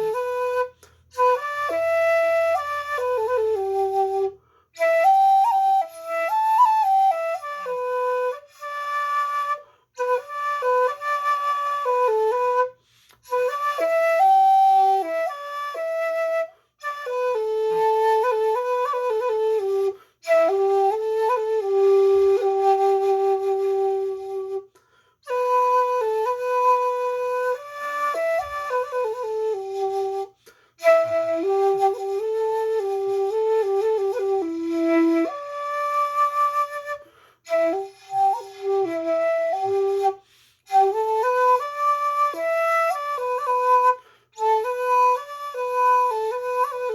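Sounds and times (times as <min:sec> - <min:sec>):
bamboo flute slow melody: 0:00.0 - 0:46.9.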